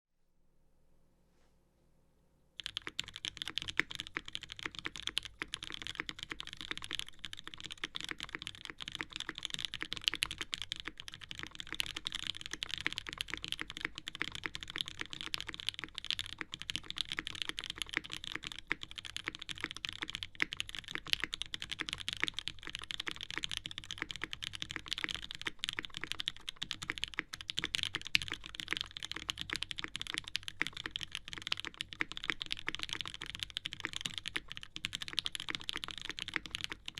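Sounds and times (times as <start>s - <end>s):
fast typing on mechanical keyboard: 2.6s - 36.9s.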